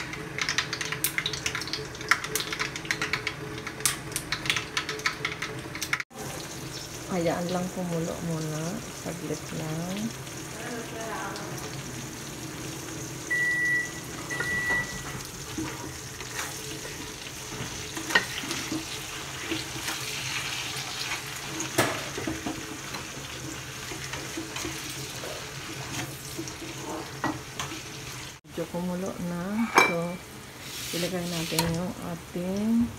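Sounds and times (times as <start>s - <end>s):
sauce bubbling and sizzling: 0.0s - 29.3s.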